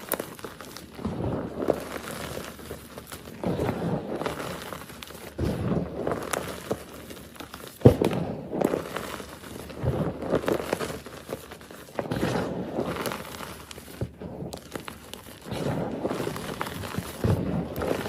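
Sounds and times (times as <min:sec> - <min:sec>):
chalk block crunching: 0:00.0 - 0:18.0.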